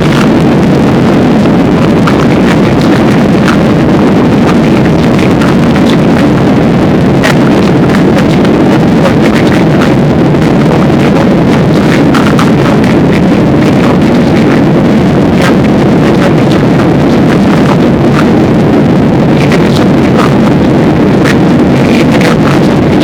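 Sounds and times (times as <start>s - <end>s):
airliner engine and airflow rush: 0.0s - 23.0s.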